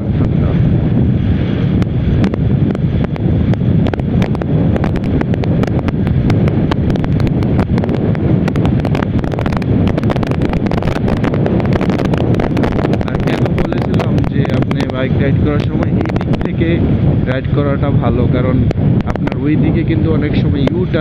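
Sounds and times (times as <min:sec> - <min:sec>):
motorcycle engine and road rumble: 0:00.0 - 0:21.0
wind buffeting microphone: 0:00.0 - 0:21.0.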